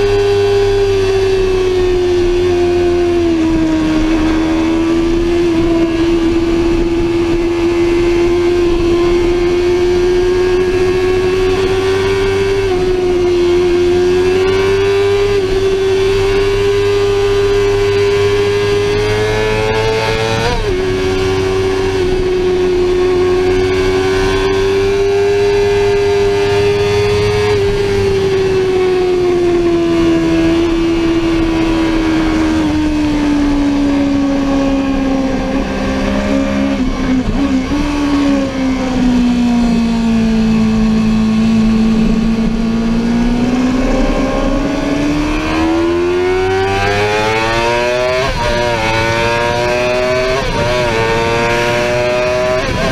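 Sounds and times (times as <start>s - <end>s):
sportbike engine at high revs: 0.0s - 52.9s.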